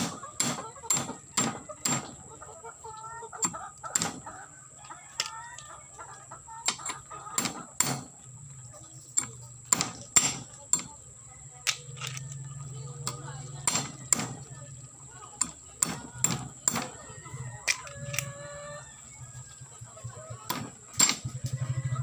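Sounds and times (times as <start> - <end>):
chicken clucking: 0.0 - 22.0.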